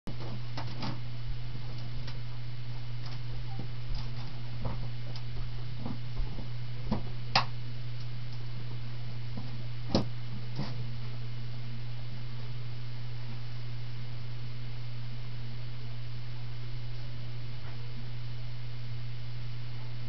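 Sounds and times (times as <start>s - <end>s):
steady low hum: 0.1s - 20.0s.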